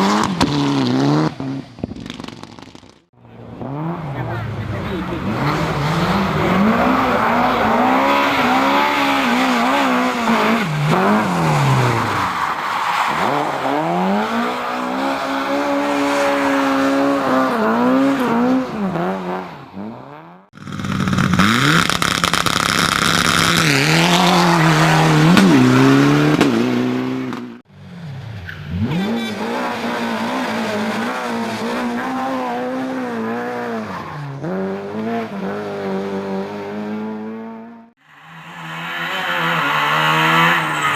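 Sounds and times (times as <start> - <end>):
racing car engines revving: 3.2 - 40.9.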